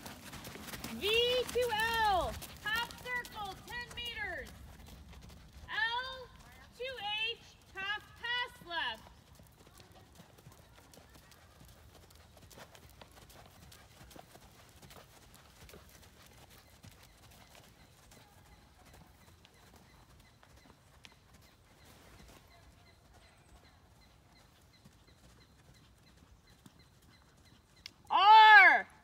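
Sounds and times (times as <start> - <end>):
horse hoofbeats on sand: 0.0 - 28.1.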